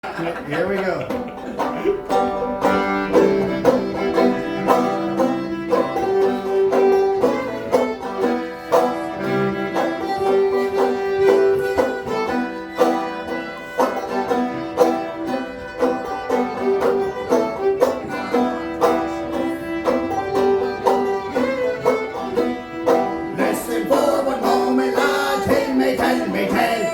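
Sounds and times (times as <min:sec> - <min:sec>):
banjo picking: 0:00.0 - 0:26.9
guitar: 0:00.0 - 0:26.9
fiddle held notes: 0:00.6 - 0:26.9.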